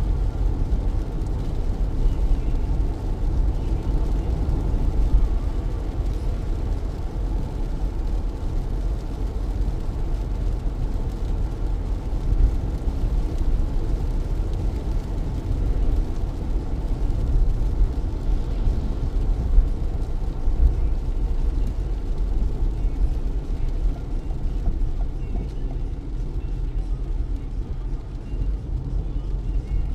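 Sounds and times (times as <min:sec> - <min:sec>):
car tyres and engine rumble: 0:00.0 - 0:29.9
rain on car: 0:00.0 - 0:29.9.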